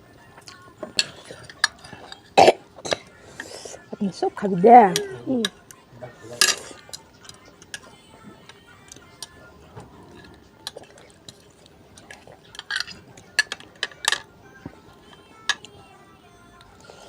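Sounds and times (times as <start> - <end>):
utensils clinking against a bowl: 0.4 - 15.9.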